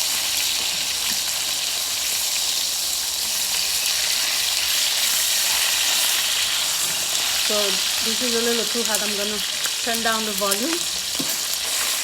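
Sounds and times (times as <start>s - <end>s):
steaks sizzling in oil: 0.0s - 12.0s.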